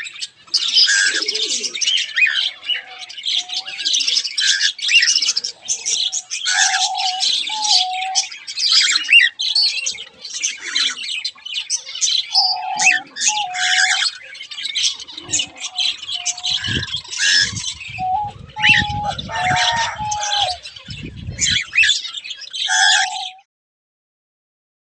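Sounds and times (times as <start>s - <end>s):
birds chirping and squawking: 0.0s - 23.5s.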